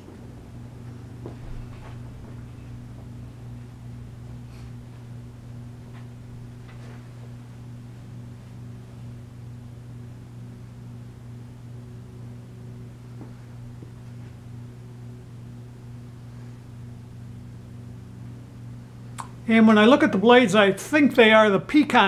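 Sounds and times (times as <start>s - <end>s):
ceiling fan motor humming: 0.0s - 22.0s.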